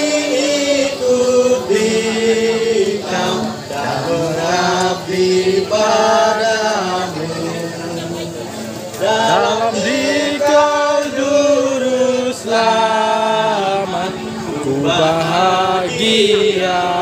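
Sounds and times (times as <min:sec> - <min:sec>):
slow hymn singing: 0:00.0 - 0:17.0.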